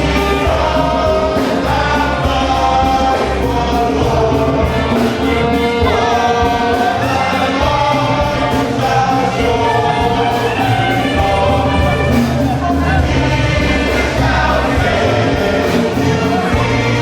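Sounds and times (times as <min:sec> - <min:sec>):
choir singing a gospel hymn: 0:00.0 - 0:17.0
instrumental backing with steady beat: 0:00.0 - 0:17.0.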